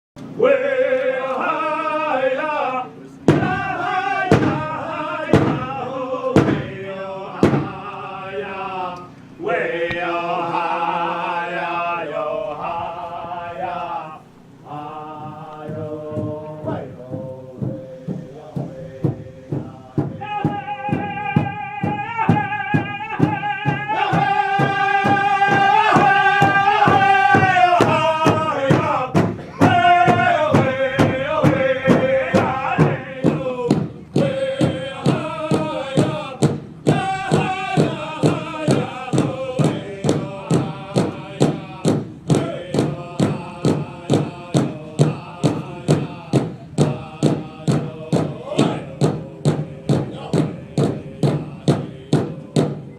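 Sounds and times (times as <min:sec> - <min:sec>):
men singing together: 0:00.3 - 0:52.9
steady drumbeat: 0:03.2 - 0:08.6, 0:14.6 - 0:52.9.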